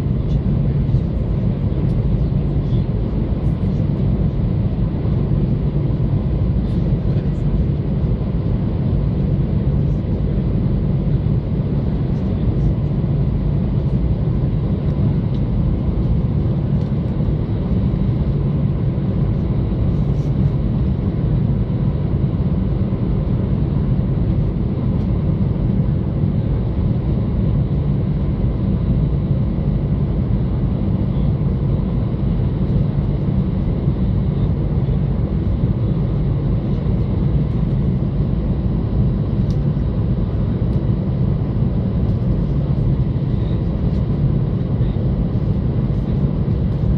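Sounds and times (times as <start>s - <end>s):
airplane engines idling rumble: 0.0s - 46.9s.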